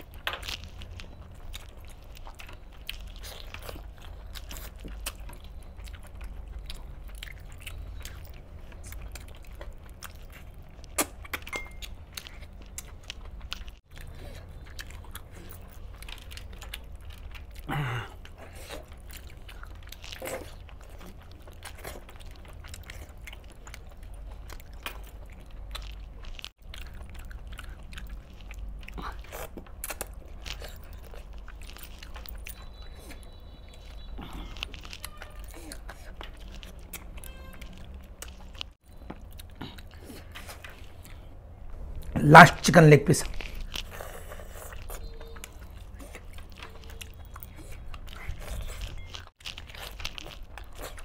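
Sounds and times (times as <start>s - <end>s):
wet chewing and smacking: 0.0s - 51.0s.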